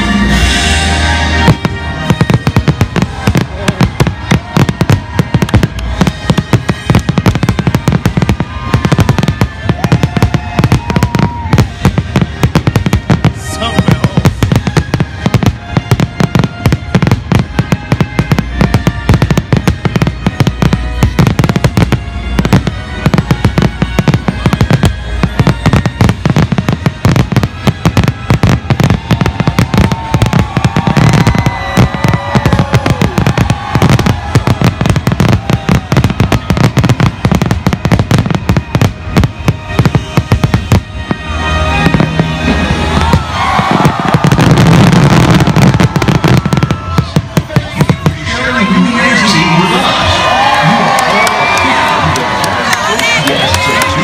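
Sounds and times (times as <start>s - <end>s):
fireworks bangs and crackles: 0.0s - 54.0s
music playing: 0.0s - 54.0s.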